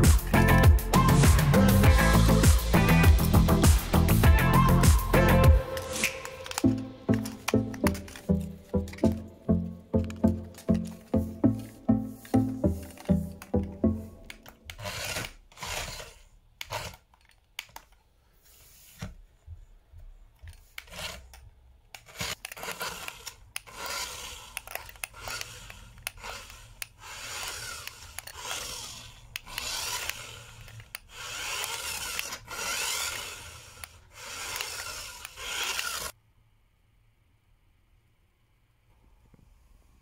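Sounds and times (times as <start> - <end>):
toy car motor whirring: 0.3 - 9.2, 10.0 - 17.9, 20.5 - 36.2.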